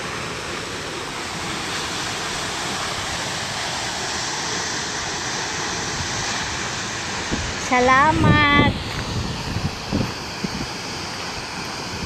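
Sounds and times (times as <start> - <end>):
waterfall pouring onto rocks: 0.0 - 12.0.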